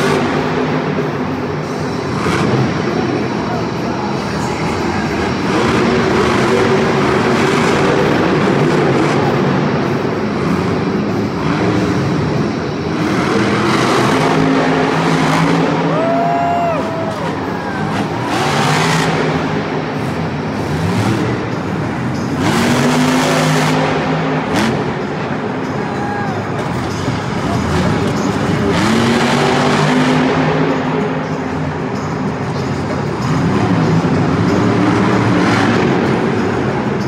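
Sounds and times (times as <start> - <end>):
monster truck engines revving: 0.0 - 37.0.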